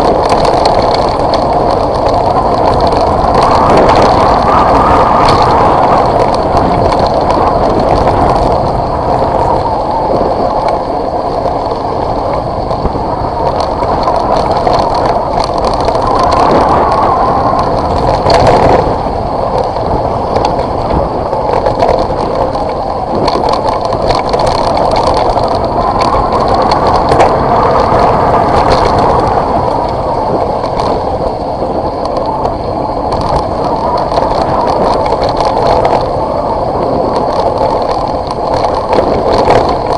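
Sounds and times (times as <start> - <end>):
tyres rumbling on gravel: 0.0 - 39.9.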